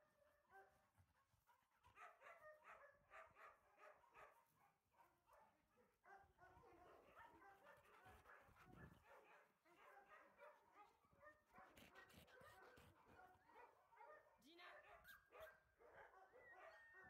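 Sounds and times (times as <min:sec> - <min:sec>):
dog barking faintly: 0:00.0 - 0:17.0.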